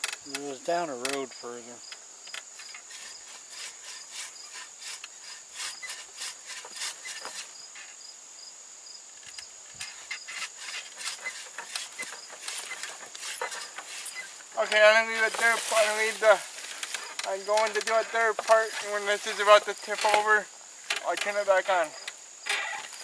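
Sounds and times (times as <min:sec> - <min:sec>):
clicks and rustles: 0:00.0 - 0:07.9, 0:09.2 - 0:23.0
insects chirping: 0:00.0 - 0:23.0.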